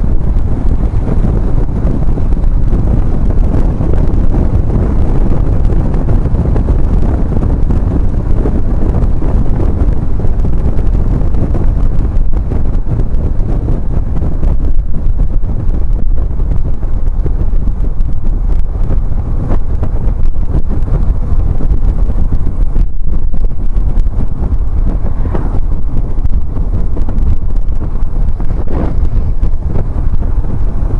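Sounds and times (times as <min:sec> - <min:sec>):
motorcycle engine running: 0:00.0 - 0:30.9
wind buffeting microphone: 0:00.0 - 0:30.9.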